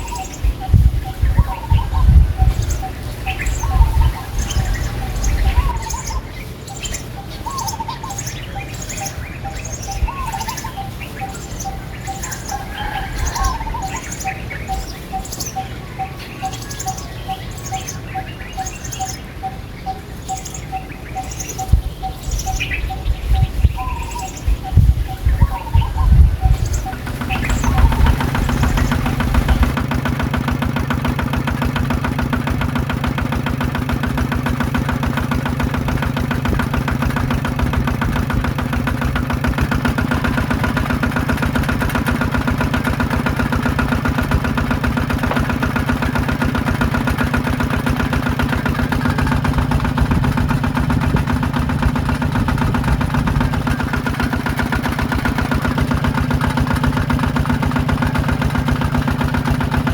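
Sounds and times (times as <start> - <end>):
small diesel engine running: 0.0 - 59.9.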